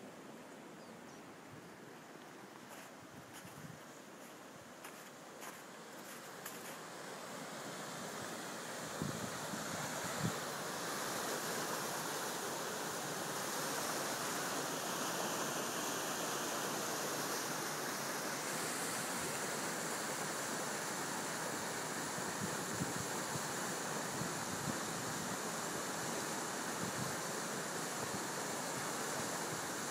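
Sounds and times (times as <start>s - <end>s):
river rushing: 4.0s - 29.9s.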